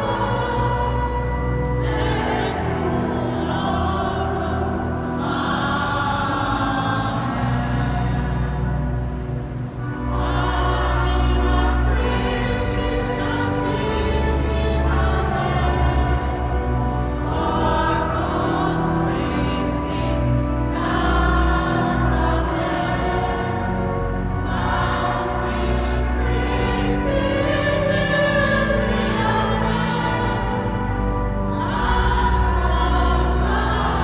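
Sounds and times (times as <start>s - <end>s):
church choir singing: 0.0s - 34.0s
low organ notes: 0.0s - 34.0s.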